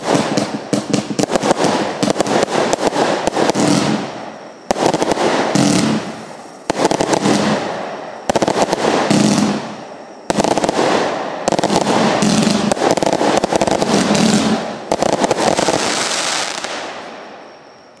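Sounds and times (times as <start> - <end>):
firework volleys: 0.0 - 18.0
rattle of small firework bursts: 0.0 - 18.0.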